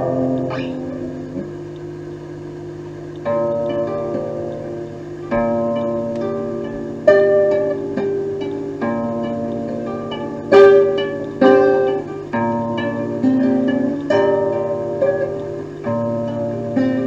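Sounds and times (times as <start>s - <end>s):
plucked-string chords: 0.0s - 17.0s.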